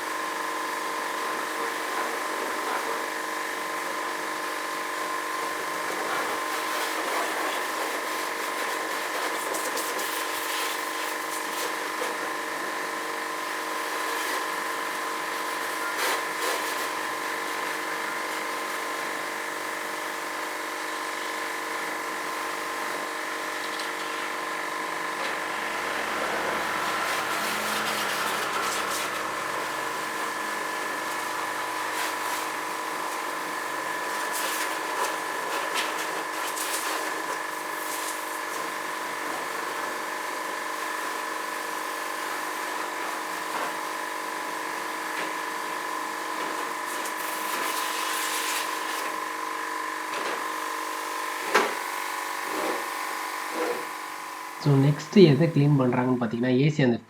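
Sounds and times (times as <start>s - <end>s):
pressure washer pump whine: 0.0s - 55.9s
water jet spraying: 5.3s - 12.4s, 13.6s - 20.6s, 21.8s - 55.8s.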